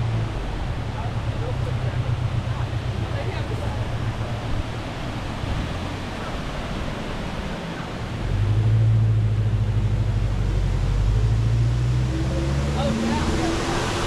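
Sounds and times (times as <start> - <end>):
rushing water: 0.0 - 14.0
vehicle engine humming: 0.0 - 14.0.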